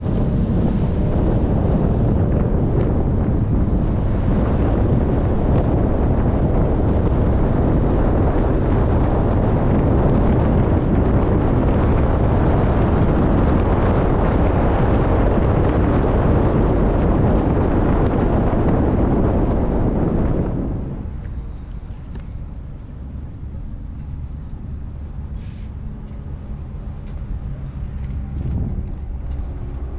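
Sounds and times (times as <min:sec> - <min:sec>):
moving vehicle running: 0:00.0 - 0:29.9
wind rushing over microphone: 0:00.0 - 0:29.9.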